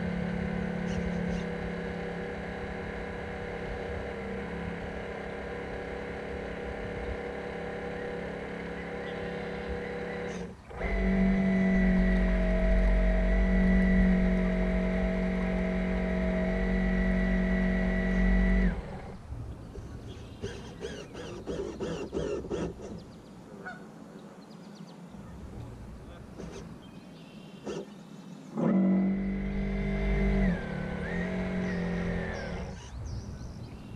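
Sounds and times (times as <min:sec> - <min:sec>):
model boat motor whine: 0:00.0 - 0:23.5, 0:25.4 - 0:33.9.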